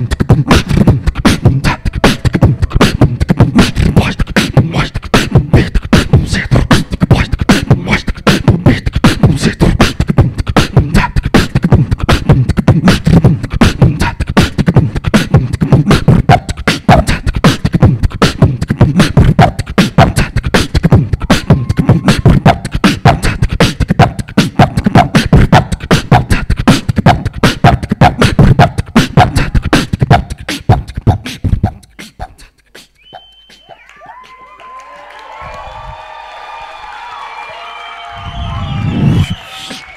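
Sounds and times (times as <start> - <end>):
short pitched vocal notes: 0.0 - 33.8
beatboxing into a microphone: 0.0 - 34.6, 38.2 - 39.9.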